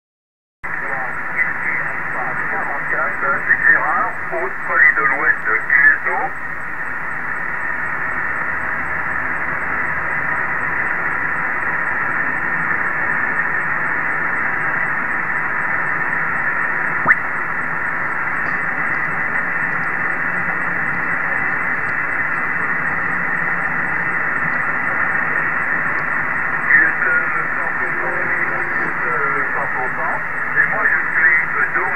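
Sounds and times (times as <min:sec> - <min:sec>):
faint steady tones: 0:00.6 - 0:31.9
radio static: 0:00.7 - 0:31.9.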